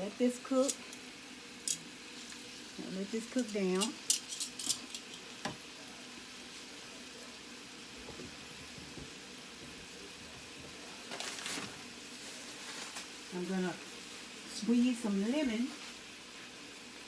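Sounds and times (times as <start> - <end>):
chicken frying in a pan: 0.0 - 17.0.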